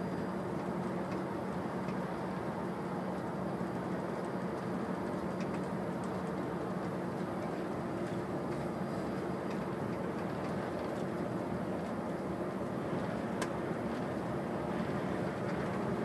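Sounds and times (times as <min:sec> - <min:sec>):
vehicle engine and tyre hum: 0:00.0 - 0:16.0.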